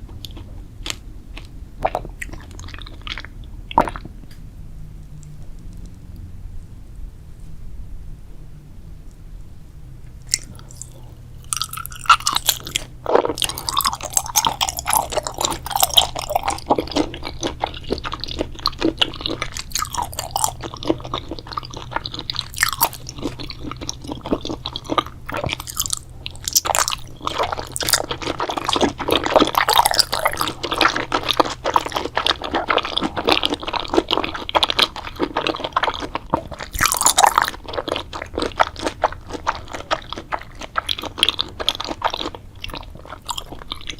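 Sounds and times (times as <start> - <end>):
person chewing crunchy food: 0.0 - 4.4, 10.2 - 43.9
wet mouth sounds: 1.4 - 4.4, 10.2 - 43.9.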